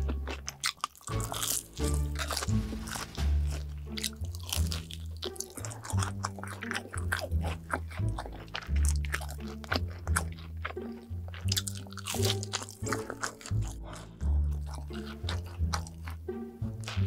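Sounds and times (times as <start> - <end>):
background music bass notes: 0.0 - 17.0
crunchy chewing: 0.0 - 17.0.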